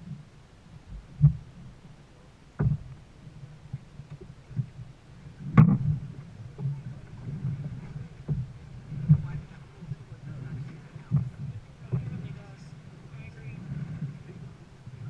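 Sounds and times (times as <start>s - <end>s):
low steady rumble: 0.0s - 15.0s
paddles splashing against boat hull: 0.9s - 15.0s.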